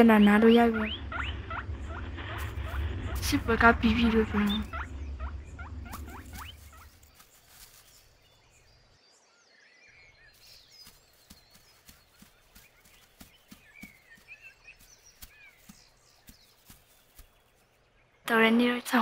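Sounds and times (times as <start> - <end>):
high bird chirps: 0.0 - 18.6.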